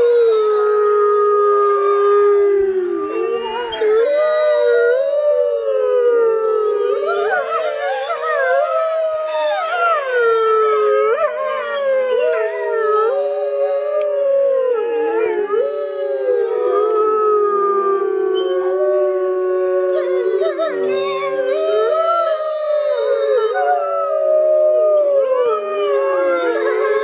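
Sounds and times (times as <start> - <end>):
chorus of howling: 0.0 - 27.0.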